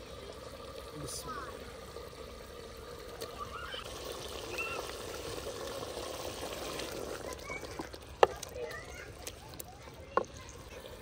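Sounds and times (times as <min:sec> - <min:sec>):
masala bubbling and sizzling: 0:00.0 - 0:11.0.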